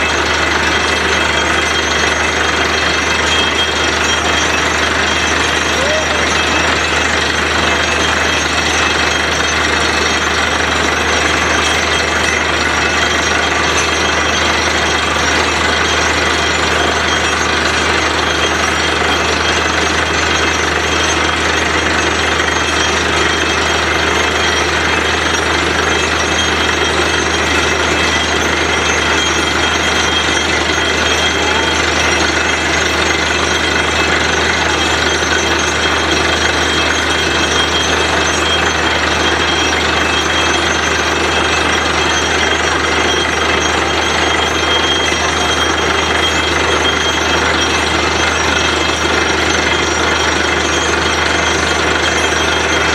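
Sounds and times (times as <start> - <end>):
drilling rig running: 0.0 - 52.9
low machine hum: 0.0 - 52.9.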